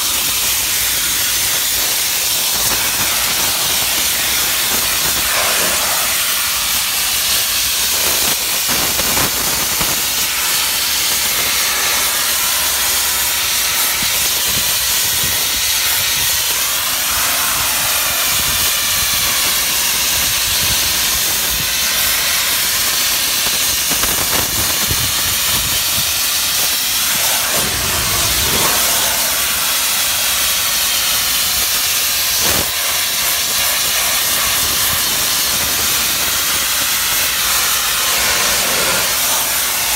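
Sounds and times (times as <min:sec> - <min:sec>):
steam jet hissing: 0:00.0 - 0:39.9.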